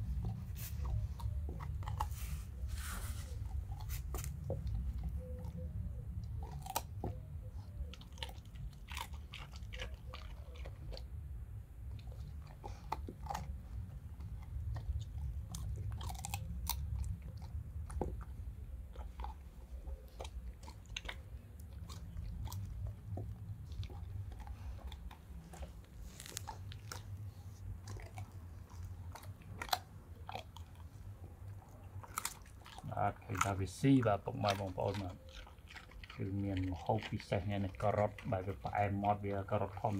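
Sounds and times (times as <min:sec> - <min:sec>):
dog chewing a carrot: 0:00.0 - 0:39.9.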